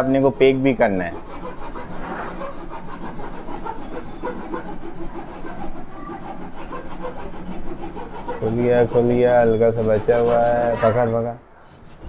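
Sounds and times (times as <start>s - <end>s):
hacksaw sawing through plaster: 0.0s - 12.0s.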